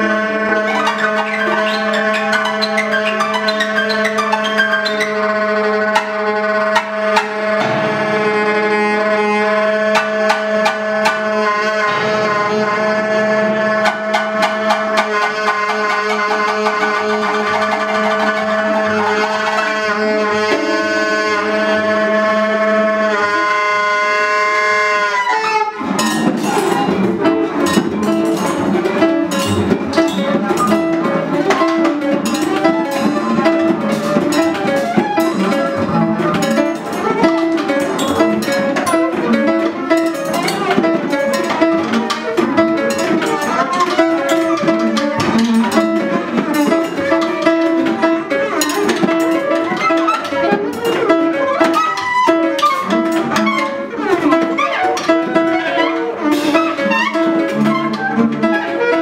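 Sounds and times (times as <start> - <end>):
free improvised jazz quartet: 0.0 - 59.0.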